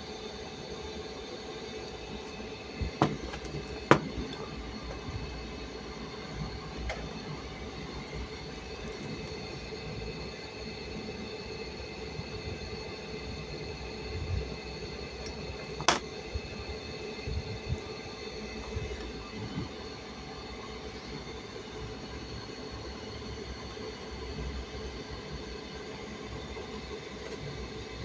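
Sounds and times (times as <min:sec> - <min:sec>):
mechanical hum and rumble: 0:00.0 - 0:28.0.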